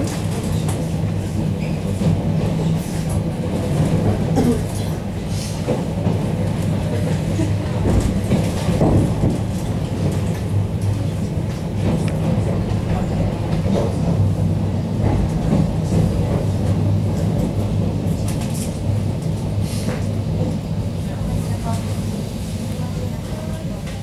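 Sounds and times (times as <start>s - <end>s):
train running hum: 0.0s - 24.0s.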